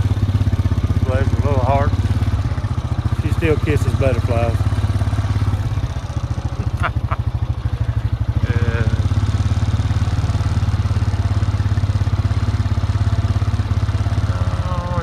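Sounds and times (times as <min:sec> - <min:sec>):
vehicle engine running at low speed: 0:00.0 - 0:15.0.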